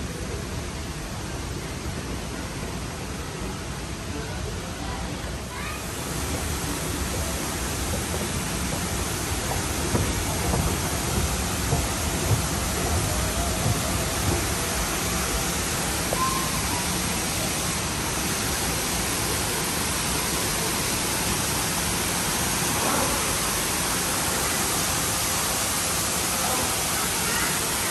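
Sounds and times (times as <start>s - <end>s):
falling water rushing: 0.0s - 27.9s.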